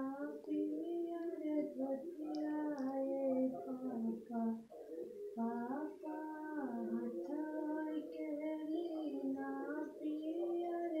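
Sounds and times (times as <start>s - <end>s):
woman singing unaccompanied: 0.0s - 4.7s, 5.4s - 11.0s.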